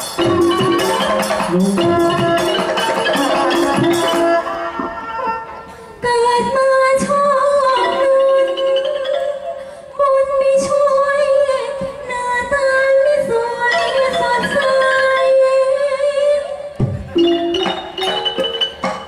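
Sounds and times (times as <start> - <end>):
musical accompaniment: 0.0 - 19.0
woman singing into a microphone: 0.2 - 16.8.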